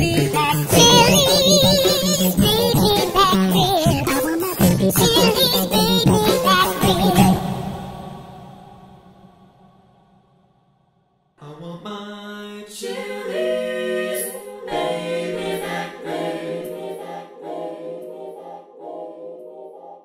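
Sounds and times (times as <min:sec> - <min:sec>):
a cappella choir singing chords: 0:00.2 - 0:09.9, 0:11.4 - 0:20.0.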